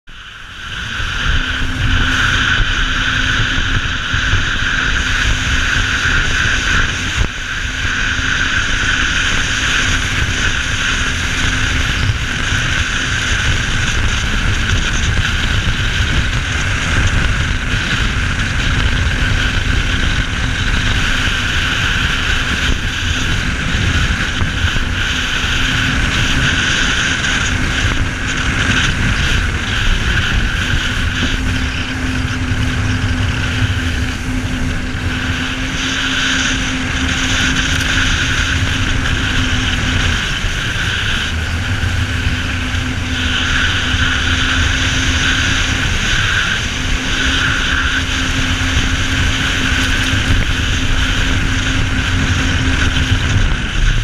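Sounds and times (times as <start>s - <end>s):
jet ski engine: 0.0s - 54.0s
water rushing: 0.1s - 54.0s
wind buffeting microphone: 0.1s - 54.0s.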